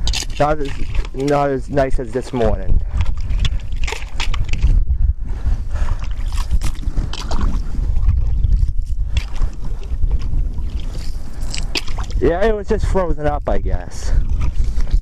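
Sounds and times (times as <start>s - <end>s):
water sloshing: 0.0s - 4.8s, 5.7s - 13.1s
wind rumble on microphone: 0.0s - 15.0s.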